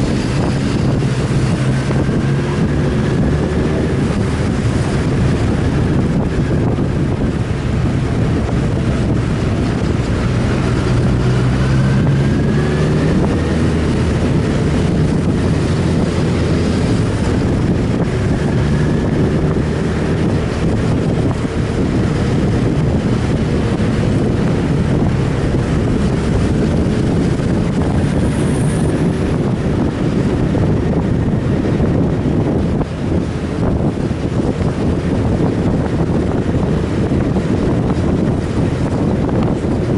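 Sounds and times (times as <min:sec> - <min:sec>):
motorcycle engine revving: 0:00.0 - 0:39.9
wind buffeting microphone: 0:00.0 - 0:39.9.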